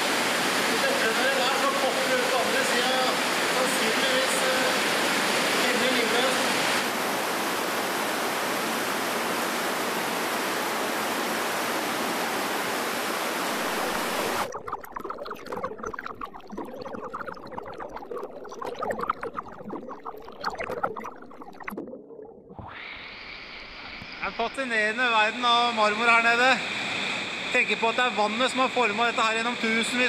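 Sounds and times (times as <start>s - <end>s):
underground river rushing: 0.0s - 30.0s.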